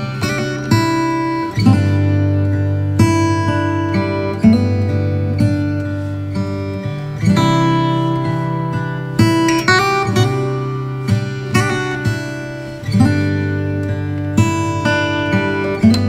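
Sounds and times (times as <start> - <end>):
acoustic guitar chords strummed: 0.0 - 16.0.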